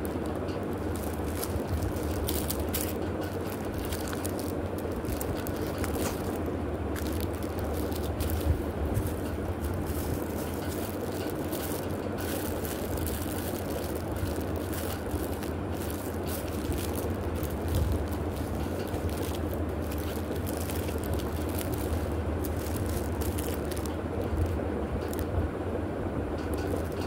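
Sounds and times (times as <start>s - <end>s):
plastic packaging crinkling: 0.0s - 25.4s, 26.4s - 27.0s
steady low hum: 0.0s - 27.0s.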